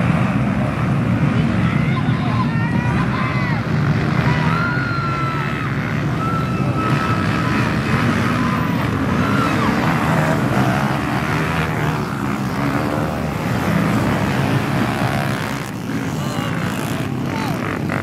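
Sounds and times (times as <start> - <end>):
quad engines revving: 0.0 - 18.0.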